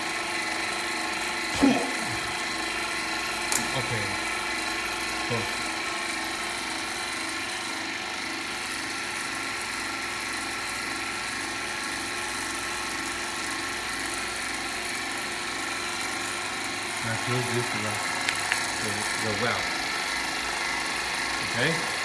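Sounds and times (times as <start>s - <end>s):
vacuum pump droning: 0.0s - 22.0s.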